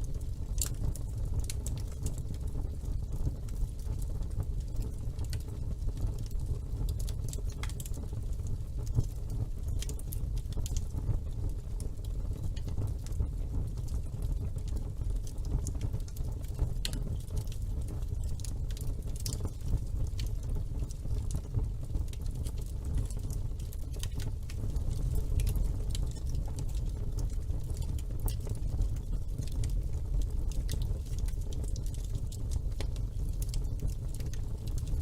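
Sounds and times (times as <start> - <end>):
fire crackling and popping: 0.0 - 35.0
fire flame rumbling: 0.0 - 35.0.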